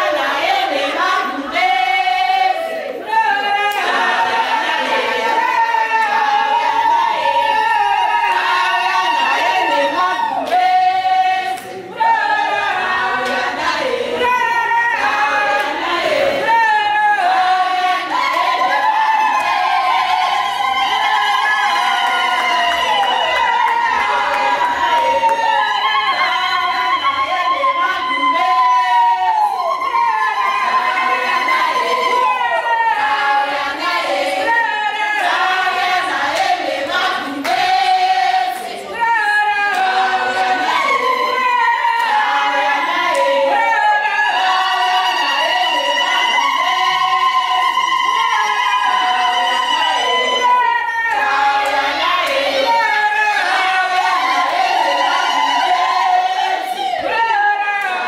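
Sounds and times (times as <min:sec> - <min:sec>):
group singing a cappella: 0:00.0 - 0:58.0.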